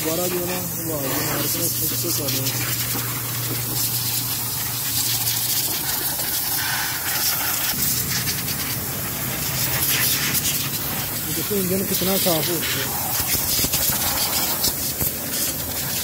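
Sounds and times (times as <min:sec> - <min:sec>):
compressed air blow gun hissing: 0:00.0 - 0:16.0.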